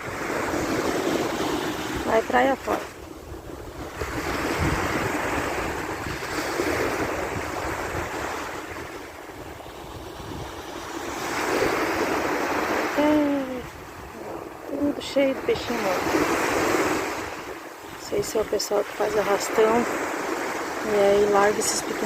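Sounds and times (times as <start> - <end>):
ocean surf washing onto beach: 0.0 - 22.0
wind buffeting microphone: 0.0 - 22.0.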